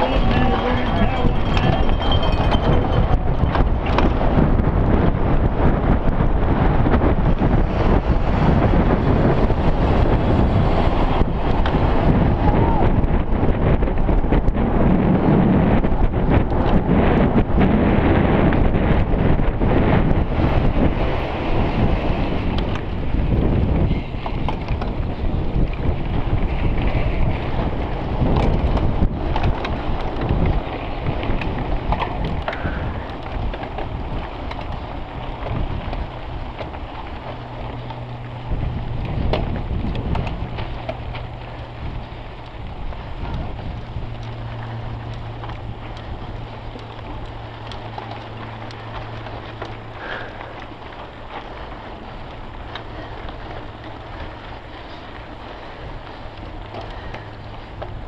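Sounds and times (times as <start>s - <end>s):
bike clicks and rattles: 0.0s - 58.0s
bike tyres rolling over ground: 0.0s - 58.0s
wind buffeting microphone: 0.0s - 58.0s.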